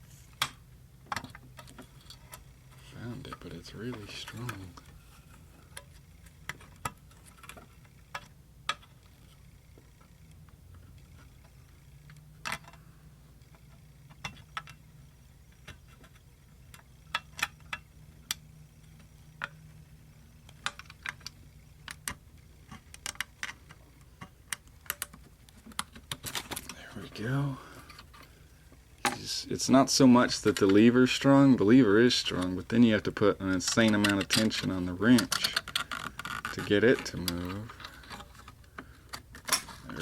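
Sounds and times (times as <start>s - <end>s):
faint low steady hum: 0.0s - 40.0s.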